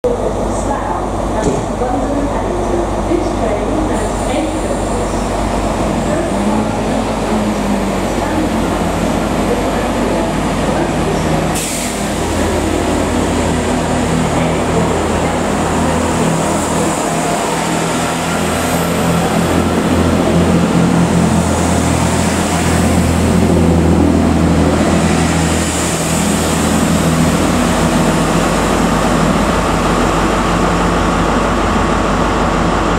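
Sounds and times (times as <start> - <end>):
diesel train engines accelerating: 0.0 - 32.9.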